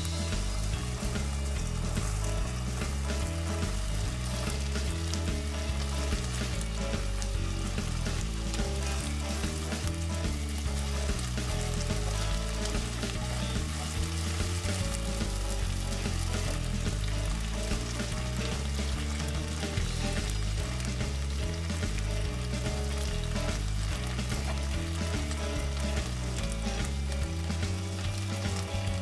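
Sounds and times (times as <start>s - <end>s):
background music with bass: 0.0s - 29.0s
chicken sizzling in a wok: 0.0s - 29.0s.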